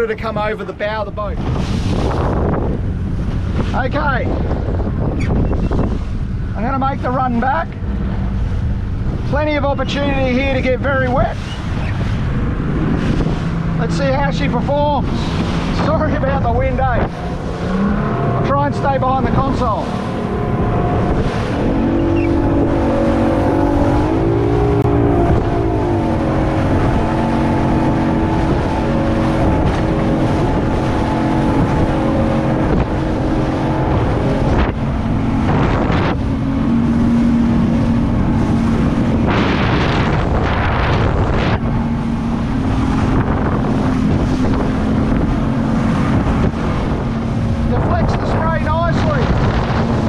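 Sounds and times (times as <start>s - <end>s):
hull and spray noise: 0.0s - 50.0s
outboard engine running: 0.0s - 50.0s
wind buffeting microphone: 0.0s - 50.0s.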